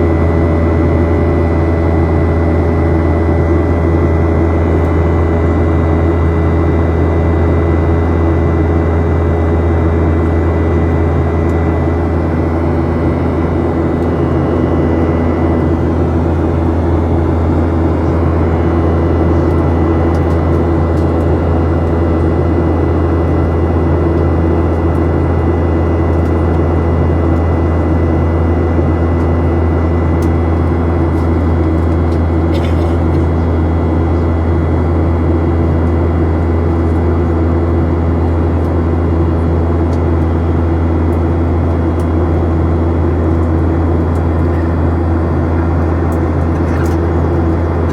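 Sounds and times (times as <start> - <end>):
jet engines droning: 0.0 - 47.9.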